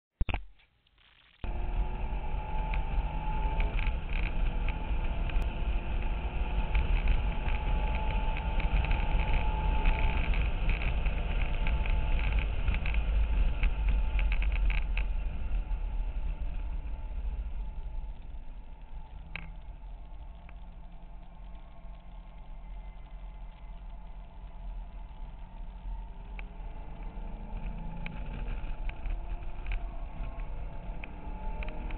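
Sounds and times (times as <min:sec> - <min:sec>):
car engine accelerating: 0:01.4 - 0:31.9
road and wind noise: 0:01.4 - 0:31.9.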